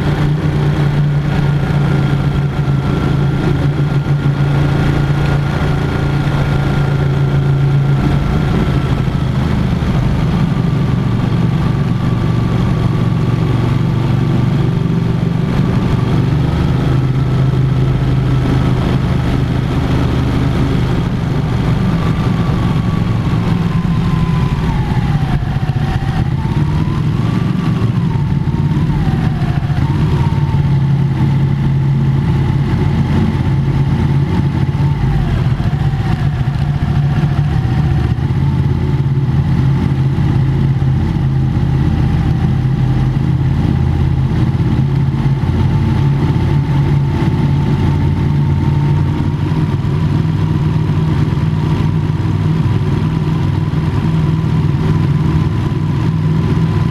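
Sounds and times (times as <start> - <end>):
motorcycle engine cruising in tunnel: 0.0 - 56.9.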